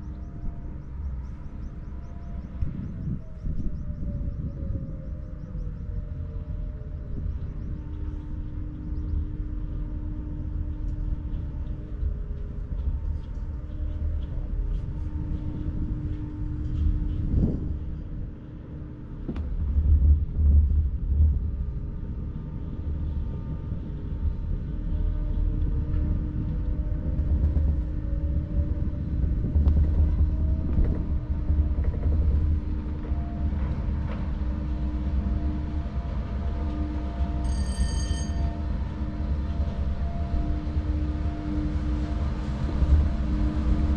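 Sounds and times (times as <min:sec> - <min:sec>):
chairlift low rumble: 0:00.0 - 0:43.9
faint steady hum: 0:00.0 - 0:43.9.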